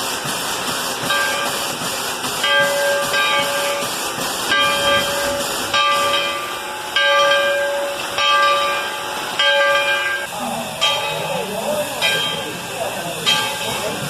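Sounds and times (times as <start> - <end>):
steam hissing: 0.0 - 14.0
locomotive bell ringing: 1.0 - 1.7, 2.4 - 14.0.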